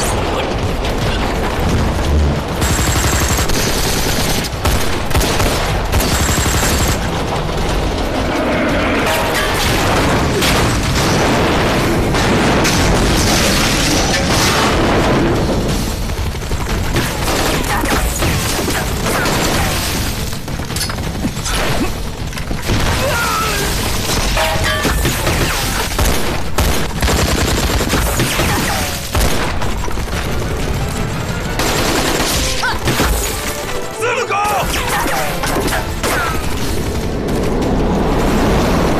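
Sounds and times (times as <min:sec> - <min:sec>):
rifle fire: 0:00.0 - 0:33.4
booming explosions: 0:00.0 - 0:33.5, 0:35.4 - 0:38.9
dramatic background music: 0:00.0 - 0:38.9.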